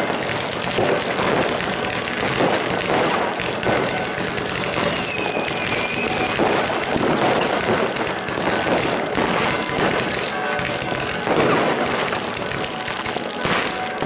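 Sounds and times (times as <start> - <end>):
firework whistle: 0.0 - 14.0
fireworks crackling: 0.0 - 14.0.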